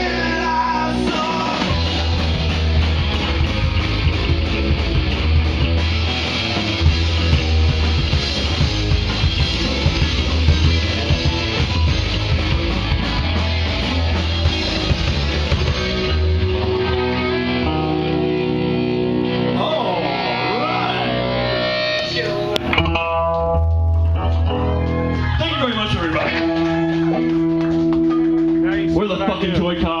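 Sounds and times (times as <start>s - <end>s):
punk rock band playing: 0.0s - 30.0s.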